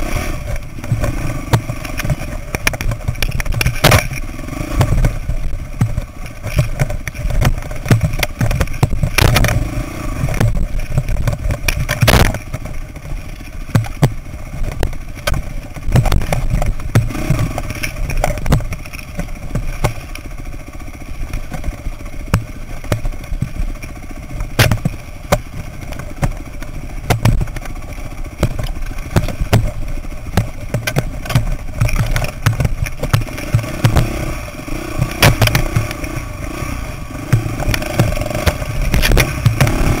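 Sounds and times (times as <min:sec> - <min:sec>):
dirt bike engine at low revs: 0:00.0 - 0:40.0
bike knocking over rocks: 0:00.4 - 0:40.0.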